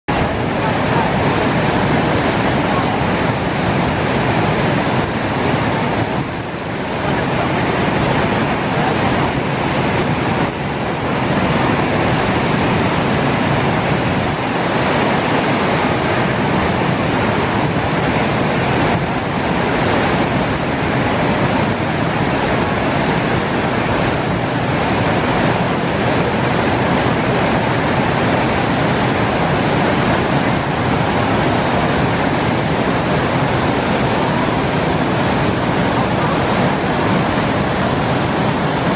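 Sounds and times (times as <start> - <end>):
waterfall and rapids rushing: 0.1 - 38.9.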